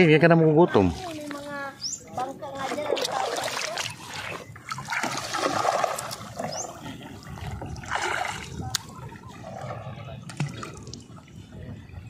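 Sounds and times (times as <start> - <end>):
shallow water splashing: 1.0 - 11.4.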